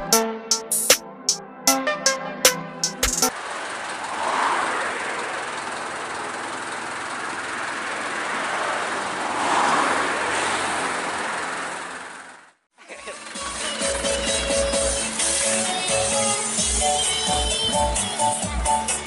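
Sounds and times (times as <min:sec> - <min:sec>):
road traffic passing: 0:01.8 - 0:19.0.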